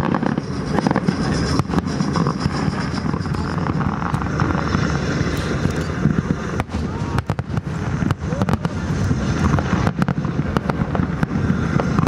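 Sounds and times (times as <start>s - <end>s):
fireworks banging and crackling: 0.0s - 12.0s
rumbling din: 0.0s - 12.0s.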